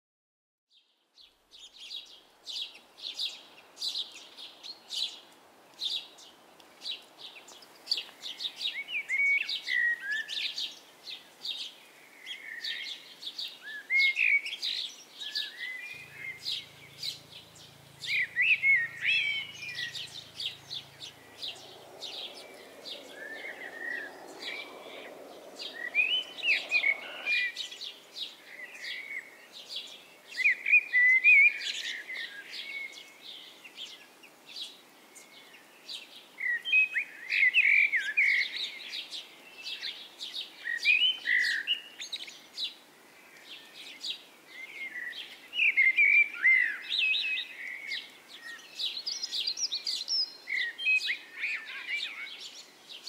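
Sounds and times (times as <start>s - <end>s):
songbirds chirping and singing: 1.5s - 53.0s.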